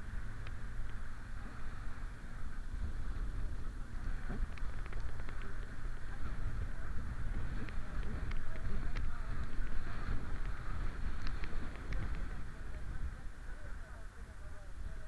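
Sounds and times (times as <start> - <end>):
motorboat engine running: 0.0 - 15.0
wind on microphone: 0.0 - 15.0.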